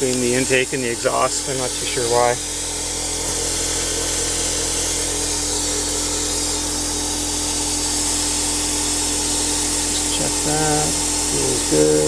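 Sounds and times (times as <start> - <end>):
compressed air hissing: 0.0 - 12.0
constant low hum: 0.0 - 12.0.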